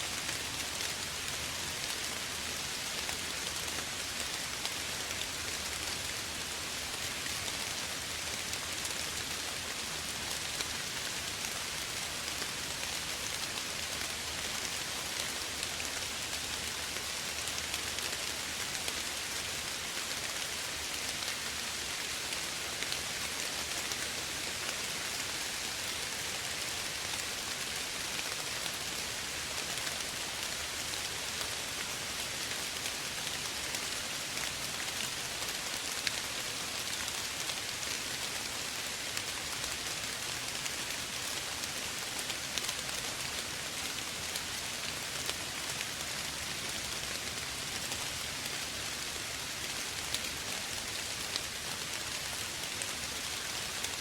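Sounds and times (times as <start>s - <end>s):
light rain hiss: 0.0s - 54.0s.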